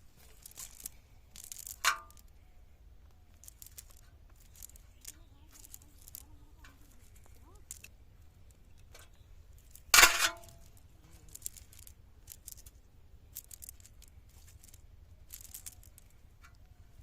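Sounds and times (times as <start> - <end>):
light clicks and rustles: 0.0 - 17.0.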